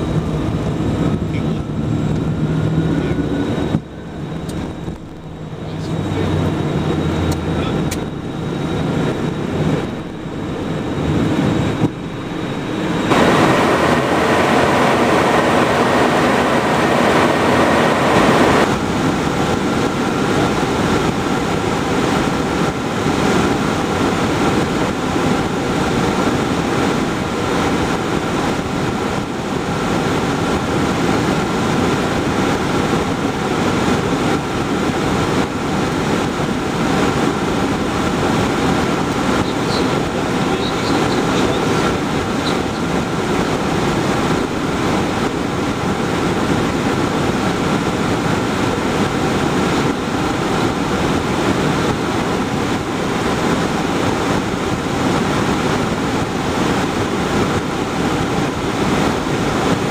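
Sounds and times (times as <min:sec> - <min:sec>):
jet engine and airflow noise: 0:00.0 - 0:59.9
jet takeoff roll rumble: 0:00.0 - 0:59.9.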